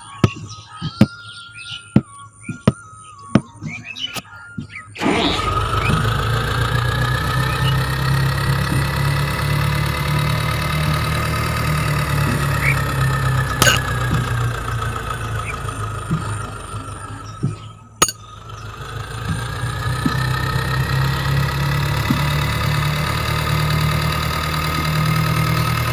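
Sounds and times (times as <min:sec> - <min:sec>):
water pump engine humming: 0:05.0 - 0:25.9.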